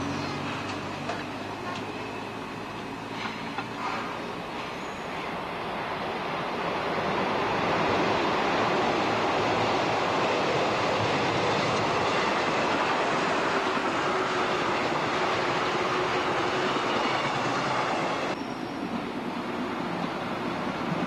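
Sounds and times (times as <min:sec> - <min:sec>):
electric train passing: 0:00.0 - 0:21.0.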